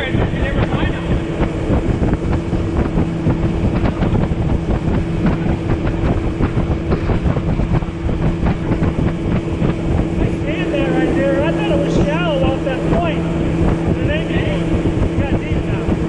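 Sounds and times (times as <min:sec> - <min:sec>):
hull clattering on water: 0:00.0 - 0:16.0
outboard motor humming: 0:00.0 - 0:16.0.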